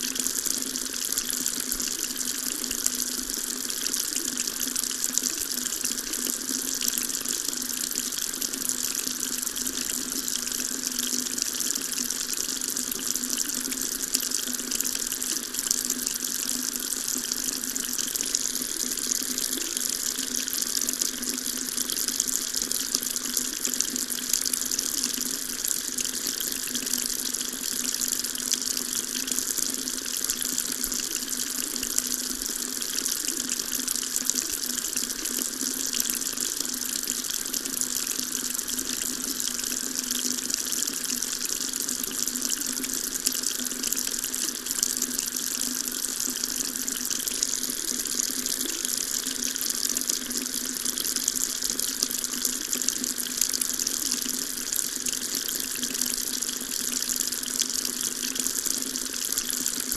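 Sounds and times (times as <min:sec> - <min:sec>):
tap water running into sink: 0:00.0 - 0:59.9.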